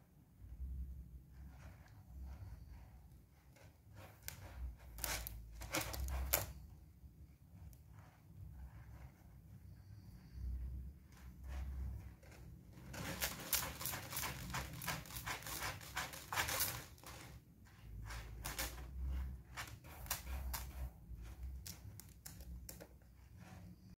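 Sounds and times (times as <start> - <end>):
kitten scratching litter: 0.5 - 24.0.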